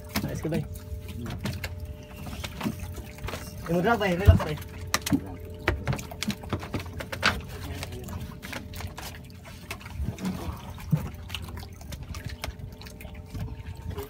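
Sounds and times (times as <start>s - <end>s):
faint steady hum: 0.0s - 14.0s
water lapping against boat hull: 0.0s - 14.0s.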